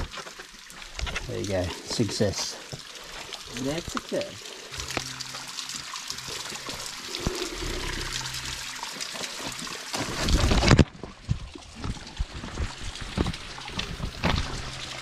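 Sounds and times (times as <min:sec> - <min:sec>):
water trickling over rocks: 0:00.0 - 0:15.0.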